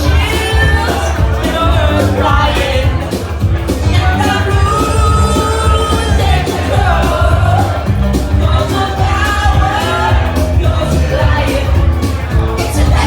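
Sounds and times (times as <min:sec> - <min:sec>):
crowd shouting along: 0:00.0 - 0:13.0
lead singer singing: 0:00.0 - 0:13.0
rock band playing: 0:00.0 - 0:13.0.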